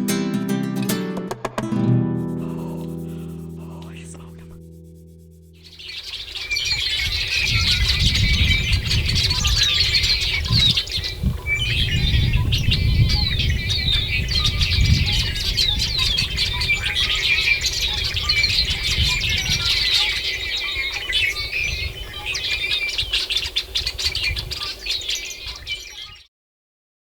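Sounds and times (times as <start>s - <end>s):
small birds chirping: 2.5s - 26.3s.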